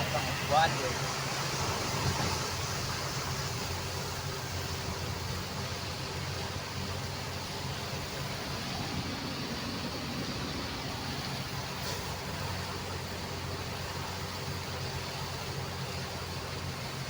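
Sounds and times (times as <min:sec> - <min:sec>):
rain and tyres on wet road: 0:00.0 - 0:17.0
vehicle engine hum: 0:00.0 - 0:17.0.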